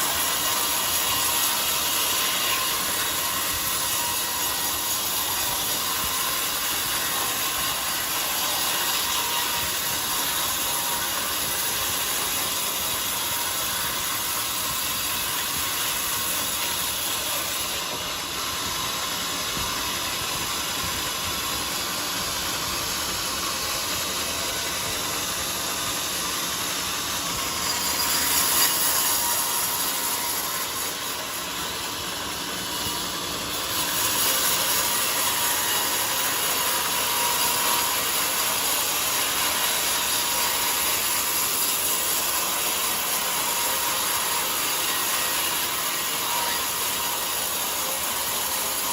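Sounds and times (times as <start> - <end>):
band saw cutting a log: 0.0 - 48.9.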